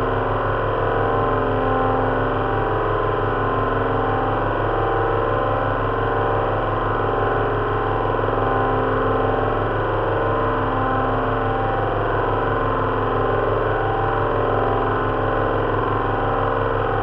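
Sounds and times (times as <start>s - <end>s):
aircraft engines running steadily: 0.0s - 17.0s.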